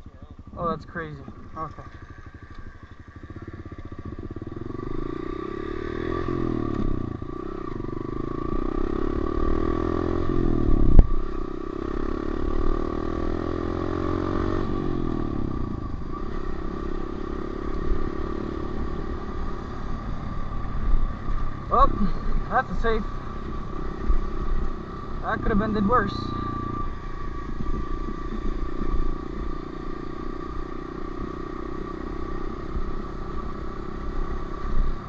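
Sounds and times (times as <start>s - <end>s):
dirt bike engine revving: 0.4s - 35.0s.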